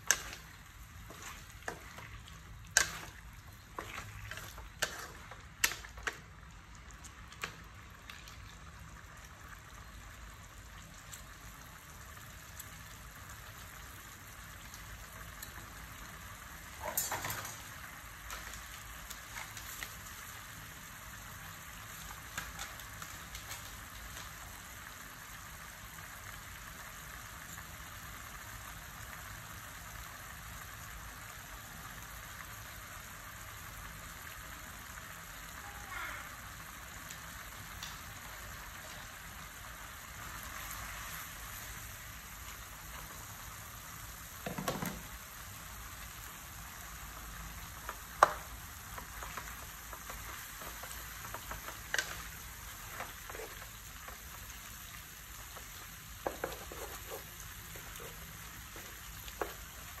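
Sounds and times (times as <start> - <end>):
food sizzling in a wok: 0.0 - 60.0.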